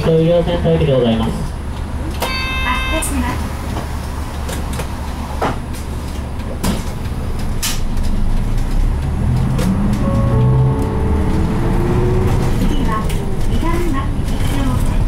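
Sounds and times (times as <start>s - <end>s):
bus diesel engine humming: 0.0s - 15.0s.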